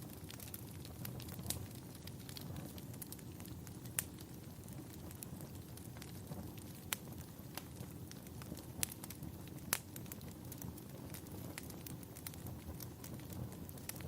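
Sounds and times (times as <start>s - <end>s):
fire crackles and pops: 0.0s - 14.0s
fire flames hissing: 0.0s - 14.0s.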